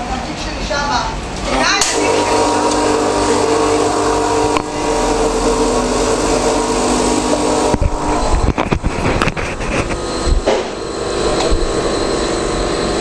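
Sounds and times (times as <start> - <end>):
espresso machine pump humming: 1.6 - 13.0.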